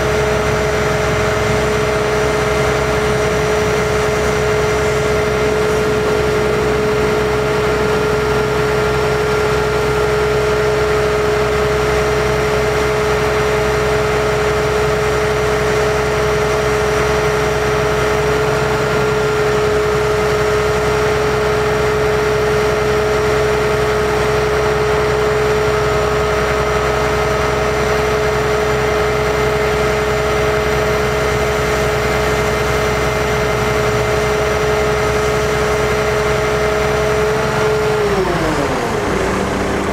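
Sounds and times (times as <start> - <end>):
diesel engine running: 0.0 - 39.9
hydraulic pump whine: 0.0 - 39.9.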